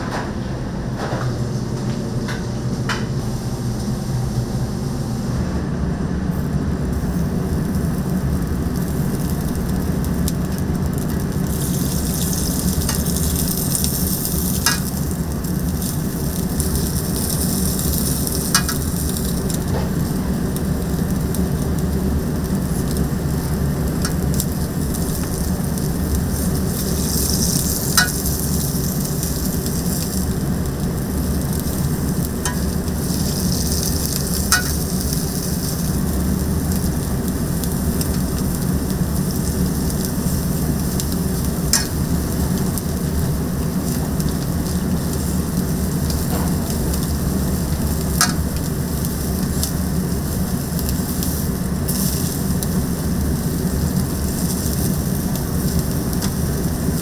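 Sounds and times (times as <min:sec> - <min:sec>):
steady low hum: 0:00.0 - 0:57.0
chicken sizzling with pops: 0:06.3 - 0:57.0.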